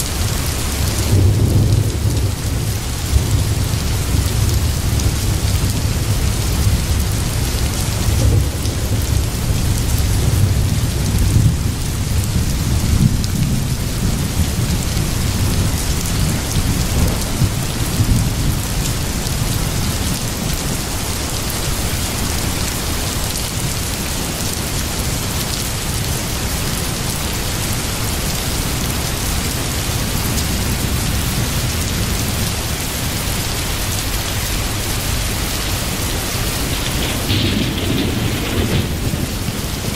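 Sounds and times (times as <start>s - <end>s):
steady rain: 0.0s - 39.9s
low rolling thunder: 0.1s - 24.5s, 27.2s - 39.9s.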